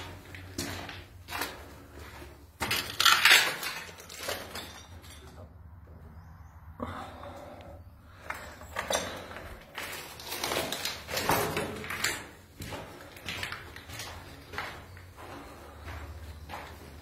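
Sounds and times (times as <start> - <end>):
footsteps on gritty concrete: 0.0 - 4.7, 8.1 - 17.0.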